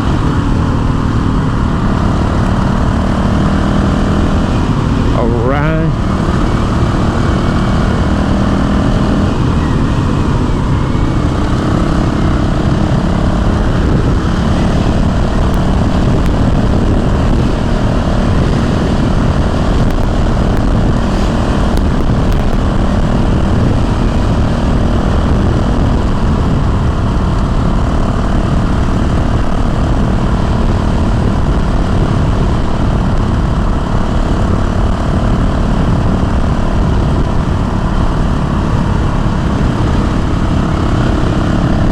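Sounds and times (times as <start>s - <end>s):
motorcycle engine running: 0.0s - 41.9s
wind rush from riding: 0.0s - 41.9s.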